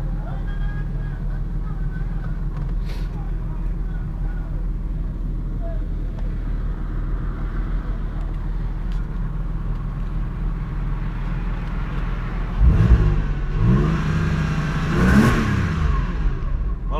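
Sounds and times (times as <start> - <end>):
car engine idling and revving: 0.0 - 16.9.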